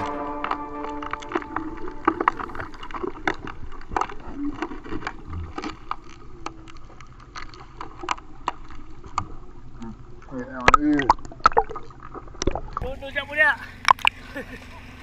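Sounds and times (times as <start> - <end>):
low rumble of moving water: 0.0 - 15.0
sharp underwater clicks and crackles: 0.4 - 12.8, 13.8 - 14.7.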